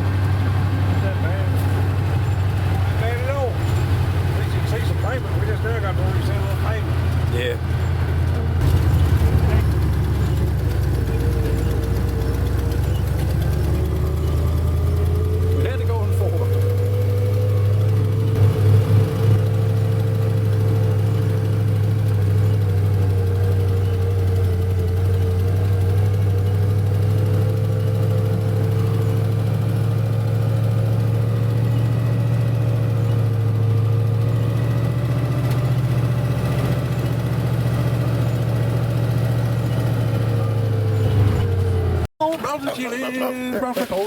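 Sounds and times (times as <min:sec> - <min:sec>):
truck engine droning: 0:00.0 - 0:44.0.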